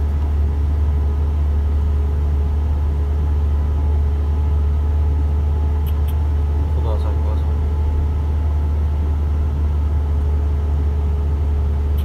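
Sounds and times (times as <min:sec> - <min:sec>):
diesel truck engine droning: 0:00.0 - 0:12.0
road noise: 0:00.0 - 0:12.0.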